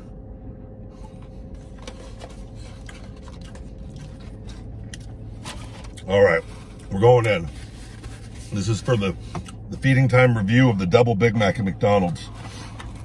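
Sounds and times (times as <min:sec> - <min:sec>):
low hum inside car: 0:00.0 - 0:13.0.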